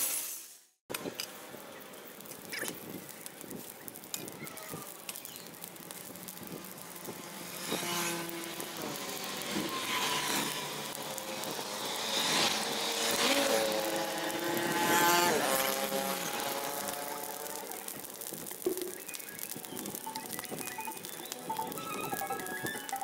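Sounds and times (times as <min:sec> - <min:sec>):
lawn mower engines running: 0:00.9 - 0:23.0.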